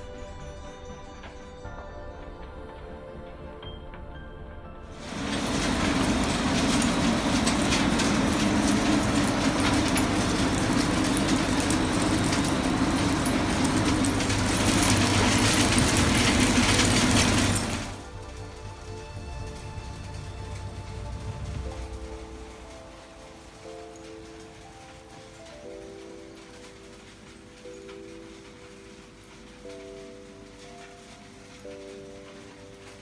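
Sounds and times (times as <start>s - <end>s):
background music: 0.0s - 33.0s
separator blower noise: 5.0s - 33.0s
waste pieces rattling through machine: 5.0s - 33.0s.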